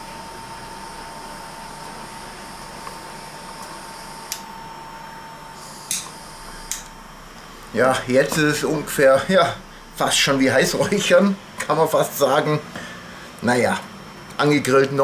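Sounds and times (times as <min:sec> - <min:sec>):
small fan motor whining: 0:00.0 - 0:14.4.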